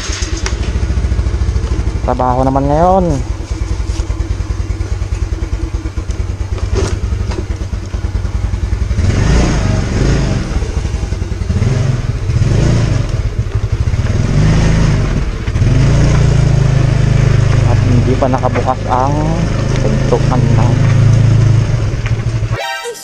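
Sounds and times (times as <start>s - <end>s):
motorcycle engine idling and revving: 0.0s - 22.6s.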